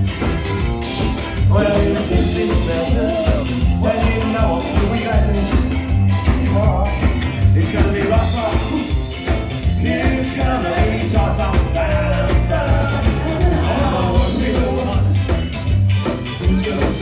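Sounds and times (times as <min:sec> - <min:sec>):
ska band music with singing: 0:00.0 - 0:17.0.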